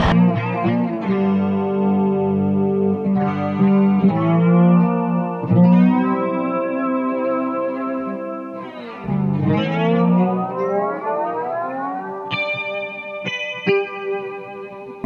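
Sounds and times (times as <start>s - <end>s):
guitar with effects: 0.0s - 15.0s.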